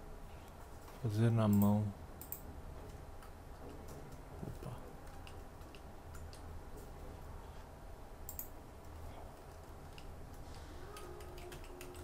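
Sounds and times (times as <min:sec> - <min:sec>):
low steady hum: 0:00.0 - 0:12.0
keyboard and mouse clicks: 0:00.8 - 0:07.0, 0:08.2 - 0:12.0.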